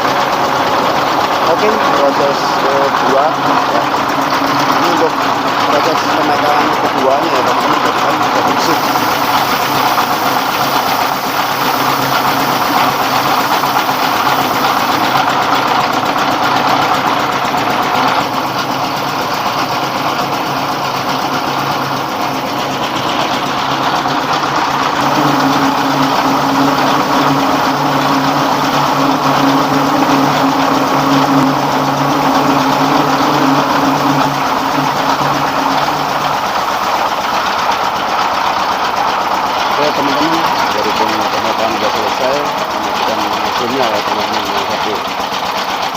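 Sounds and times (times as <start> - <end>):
diesel engine hum: 0.0 - 45.9
rice husker machinery rushing: 0.0 - 45.9.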